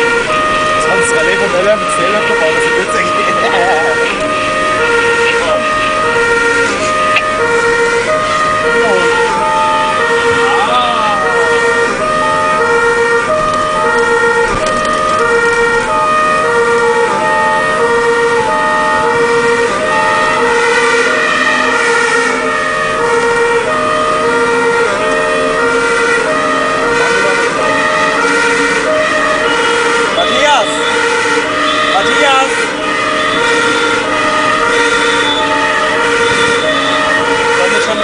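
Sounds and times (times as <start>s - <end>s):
two-tone fire engine siren: 0.0s - 38.0s.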